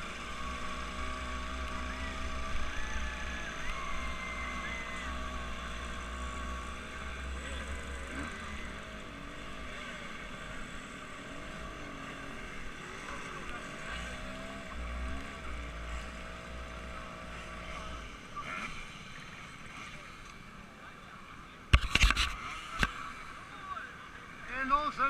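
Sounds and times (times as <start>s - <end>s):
motorboat engine running: 0.0s - 24.5s.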